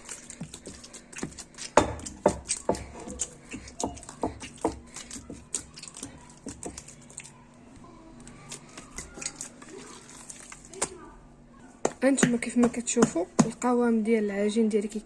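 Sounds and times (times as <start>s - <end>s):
dough slapping in a bowl: 0.0s - 7.4s, 8.3s - 11.2s, 11.8s - 13.8s.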